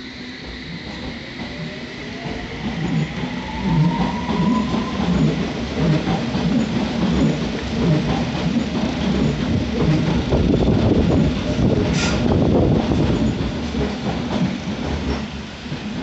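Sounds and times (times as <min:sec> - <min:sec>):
train rumbling: 0:00.0 - 0:16.0
train wheels clattering: 0:00.4 - 0:16.0.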